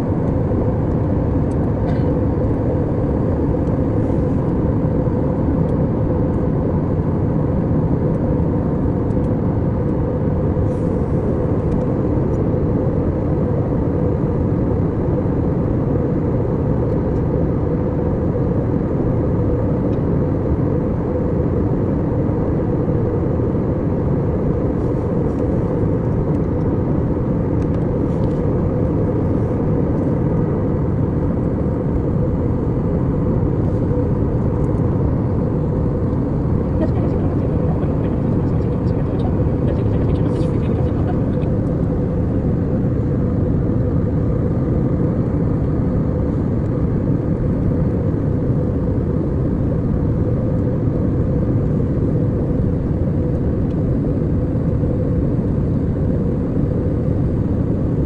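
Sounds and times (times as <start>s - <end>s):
airliner cabin engine noise: 0.0s - 58.0s
faint steady hum: 0.0s - 58.0s.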